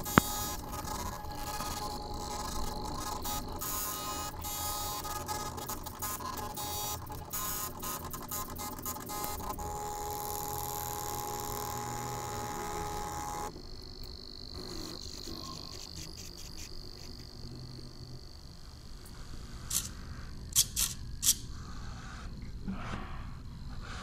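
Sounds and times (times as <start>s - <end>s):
stepper motor clicks: 0.0s - 21.5s
stepper motor whine: 0.0s - 22.1s.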